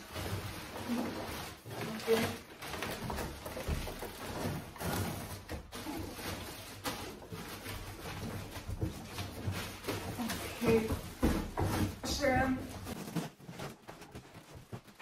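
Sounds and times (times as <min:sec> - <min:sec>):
cardboard scraping: 0:00.0 - 0:15.0
plastic wrapping crinkling: 0:00.0 - 0:15.0.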